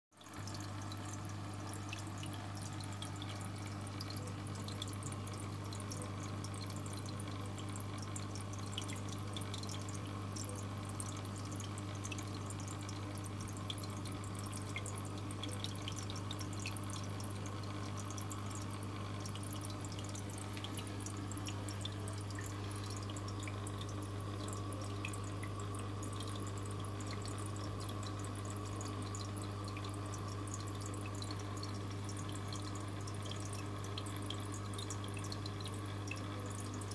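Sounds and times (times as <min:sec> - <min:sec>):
aquarium water trickling: 0:00.2 - 0:36.9
steady low hum: 0:00.3 - 0:36.9.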